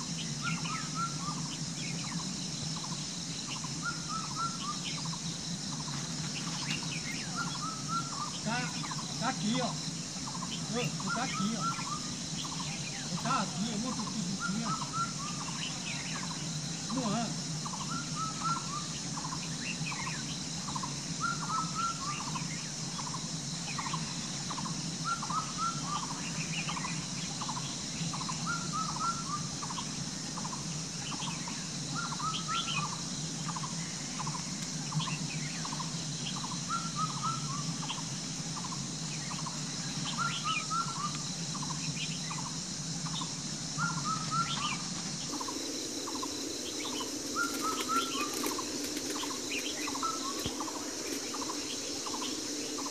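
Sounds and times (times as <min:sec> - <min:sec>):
bird calling: 0:00.0 - 0:52.9.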